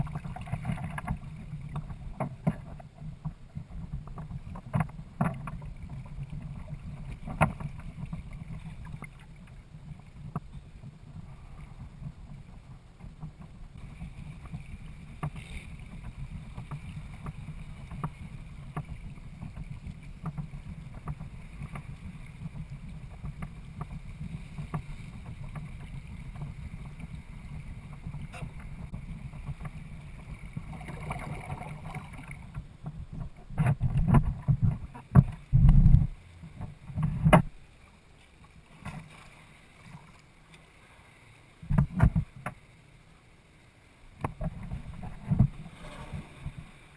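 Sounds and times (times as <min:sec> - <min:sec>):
water rushing along hull: 0:00.0 - 0:46.9.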